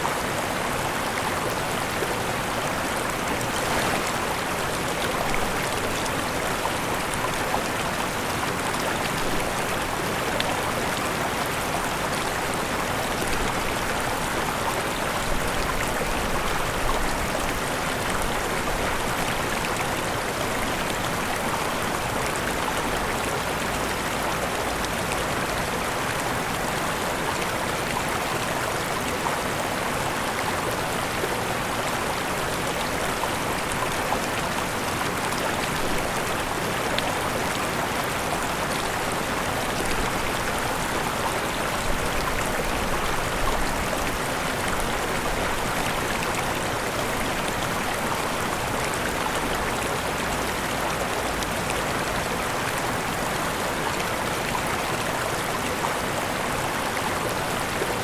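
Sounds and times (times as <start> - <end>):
waterfall splashing and rushing: 0.0 - 58.0.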